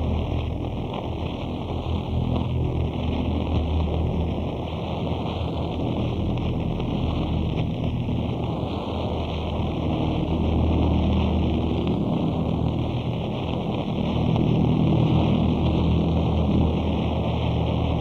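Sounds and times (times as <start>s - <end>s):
harsh noise music static: 0.0s - 18.0s.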